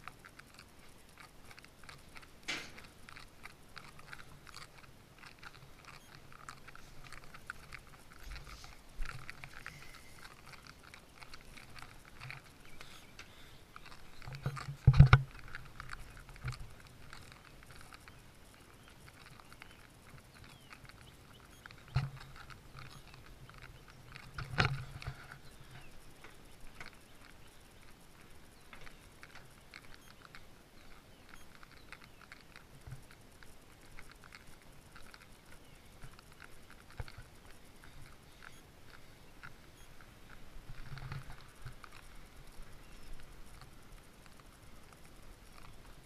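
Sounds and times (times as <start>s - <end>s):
faint rustling and crackle: 0.0s - 46.0s.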